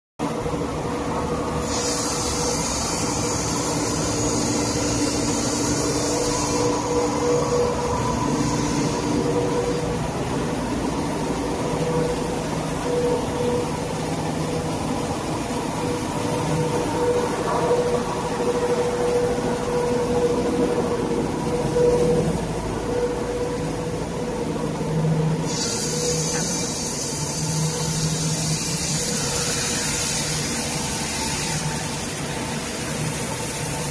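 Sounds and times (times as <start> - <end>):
polishing machine drone: 0.3 - 33.9
high hiss: 1.3 - 20.8, 25.1 - 33.9.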